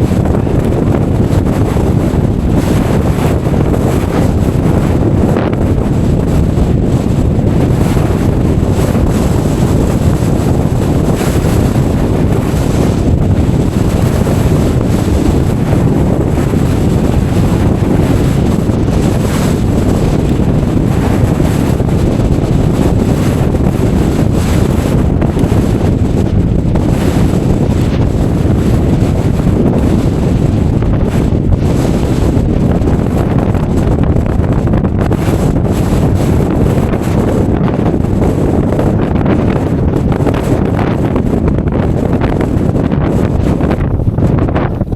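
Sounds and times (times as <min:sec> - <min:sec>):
strong wind buffeting microphone: 0:00.0 - 0:44.9.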